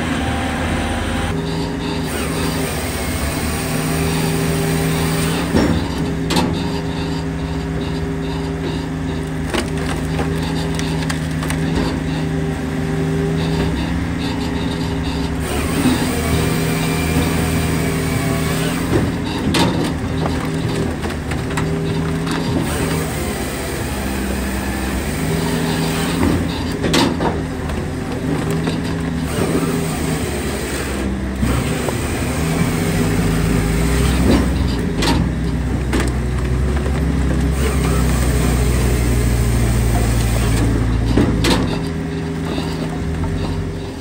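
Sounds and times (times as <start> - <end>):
firewood processor engine droning: 0.0 - 44.0.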